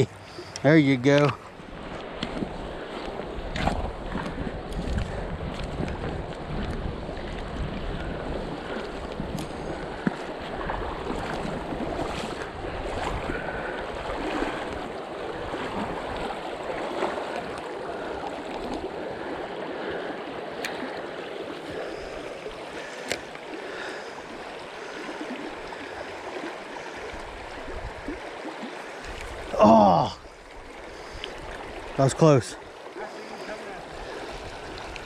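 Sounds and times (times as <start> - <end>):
water rushing over rocks: 2.2 - 35.0.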